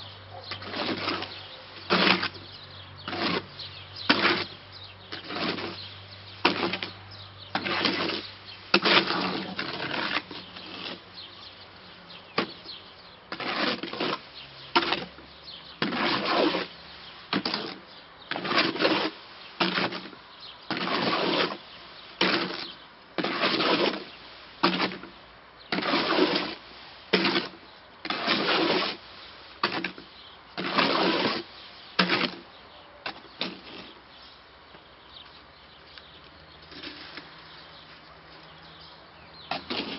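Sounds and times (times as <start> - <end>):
shovel scraping concrete mix: 0.0 - 35.3, 36.5 - 39.9.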